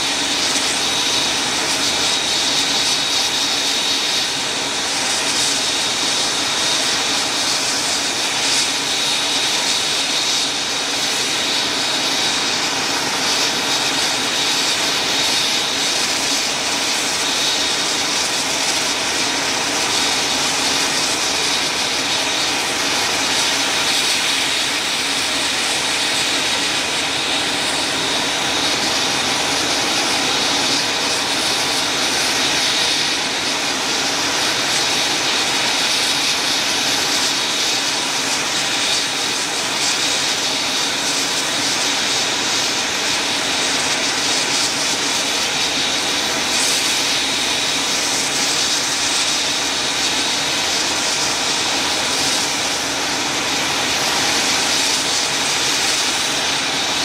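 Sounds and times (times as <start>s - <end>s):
helicopter engines idling: 0.0s - 57.0s.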